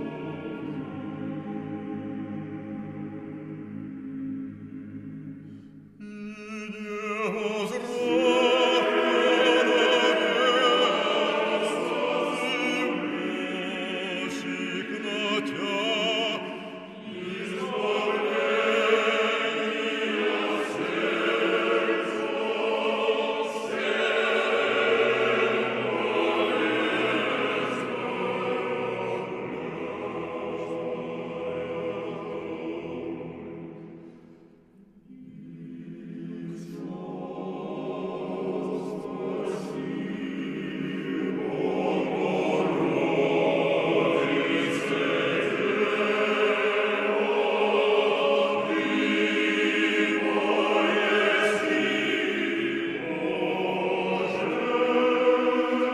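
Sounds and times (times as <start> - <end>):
choir singing with vibrato: 0.0 - 55.9.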